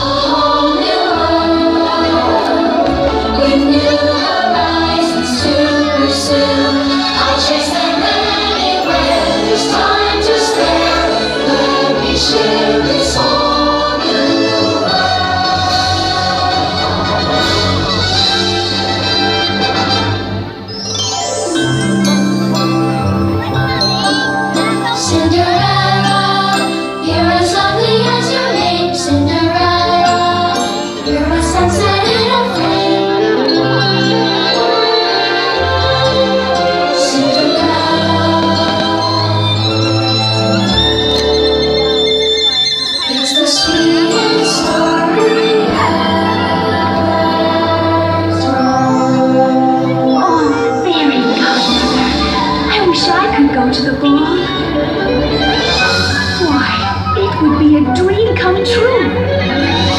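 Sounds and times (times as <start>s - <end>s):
choral music over sound system: 0.0s - 57.2s.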